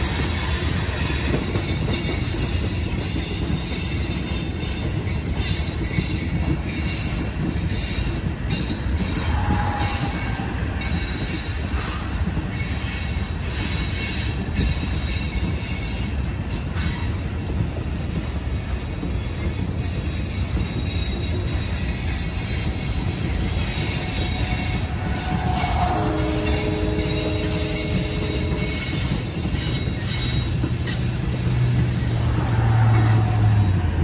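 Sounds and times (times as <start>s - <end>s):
train wheels rumbling on rails: 0.0s - 34.0s
clacks over rail joints: 0.1s - 34.0s
wheel squeal: 0.2s - 17.1s, 19.4s - 33.9s.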